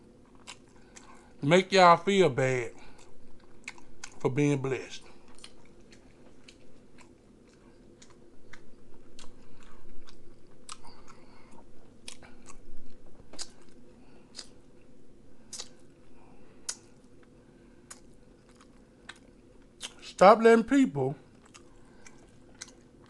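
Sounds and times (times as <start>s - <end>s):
person chewing food: 0.0s - 1.4s, 2.8s - 4.2s, 5.0s - 20.0s, 21.2s - 23.0s.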